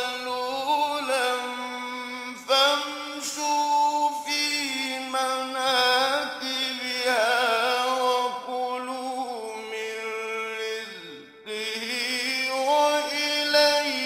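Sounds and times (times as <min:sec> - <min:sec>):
man chanting melodic recitation: 0:00.0 - 0:14.0.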